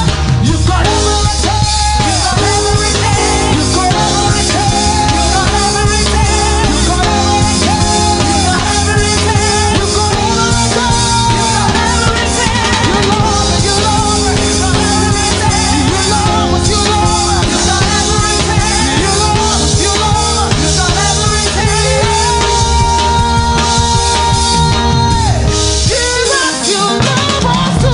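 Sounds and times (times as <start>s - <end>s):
fast drum beat: 0.0s - 27.9s
live gospel band music: 0.0s - 27.9s.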